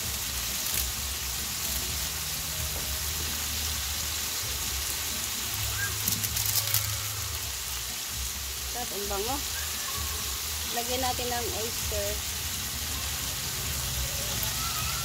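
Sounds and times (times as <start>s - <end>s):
meat sizzling in a wok: 0.0s - 15.0s
seasoning shaken from sachet: 0.0s - 15.0s.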